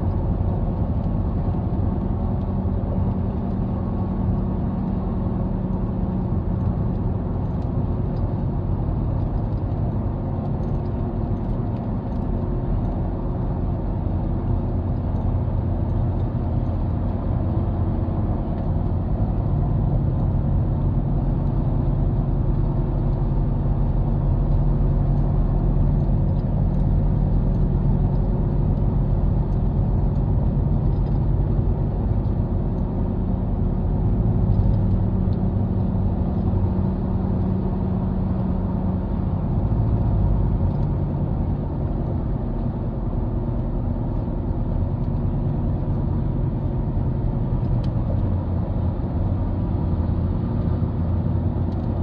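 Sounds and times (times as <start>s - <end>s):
car engine and tyres rumbling: 0.0s - 52.0s.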